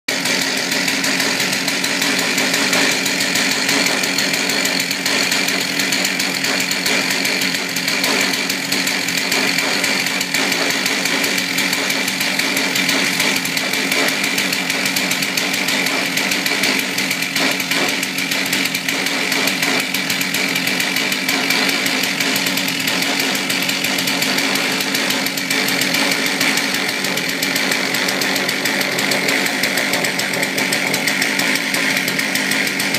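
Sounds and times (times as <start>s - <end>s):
chainsaw running steadily: 0.0s - 32.9s.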